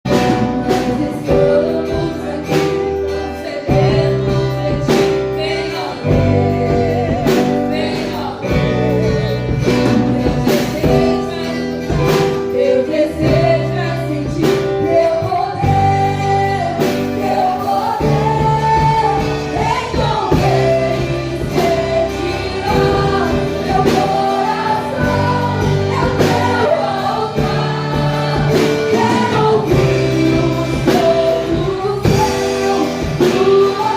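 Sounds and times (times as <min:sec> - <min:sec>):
worship song singing: 0:00.0 - 0:33.9
instrumental accompaniment with beat: 0:00.1 - 0:33.9.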